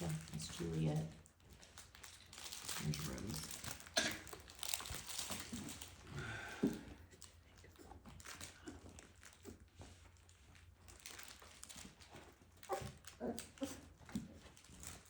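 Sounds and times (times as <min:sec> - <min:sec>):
puppies rustling and scratching: 0:00.0 - 0:15.0.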